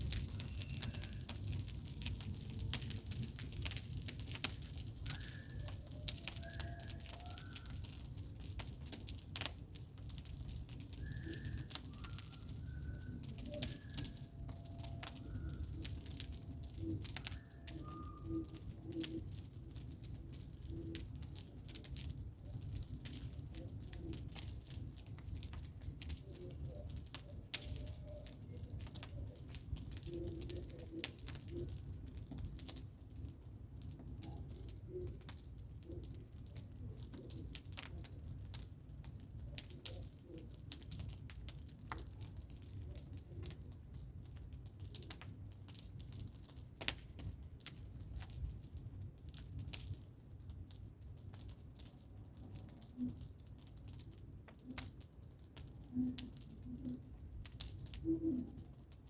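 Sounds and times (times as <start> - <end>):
bonfire crackling: 0.0 - 59.0.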